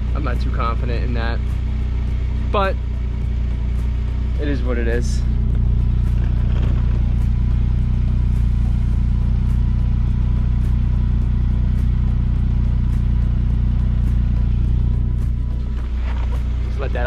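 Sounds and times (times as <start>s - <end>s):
car exhaust idling: 0.0s - 17.0s.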